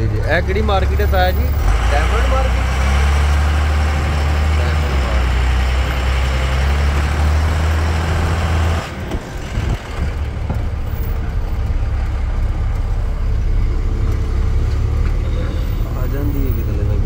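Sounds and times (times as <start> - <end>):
street traffic engine hum: 0.0 - 17.0
vehicle engine and road noise: 0.0 - 17.0.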